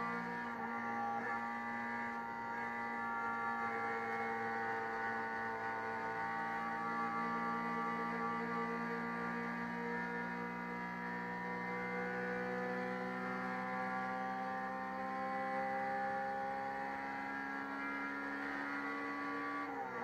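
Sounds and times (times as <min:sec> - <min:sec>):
race car engine droning: 0:00.0 - 0:20.0.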